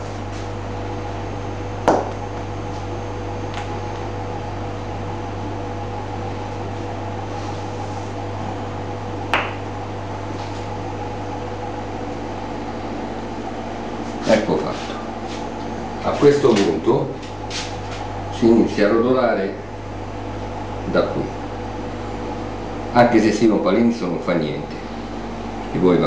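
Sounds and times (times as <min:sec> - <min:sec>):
kitchen equipment humming: 0:00.0 - 0:26.0.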